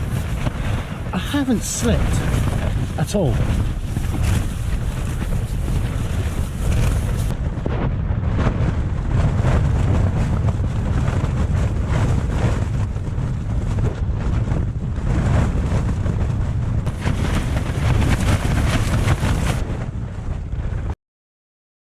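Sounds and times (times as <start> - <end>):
tent fabric flapping: 0.0 - 21.0
wind rumble on microphone: 0.0 - 21.0.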